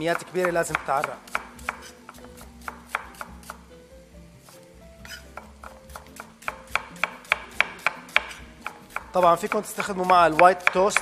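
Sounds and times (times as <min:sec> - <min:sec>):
knife chopping on wooden board: 0:00.0 - 0:03.6, 0:04.4 - 0:11.0.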